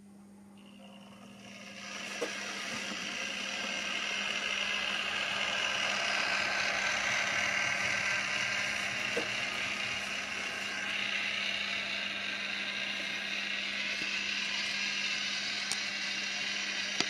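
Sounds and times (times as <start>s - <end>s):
constant low hum: 0.0s - 17.0s
model tram motor whirring: 0.6s - 17.0s.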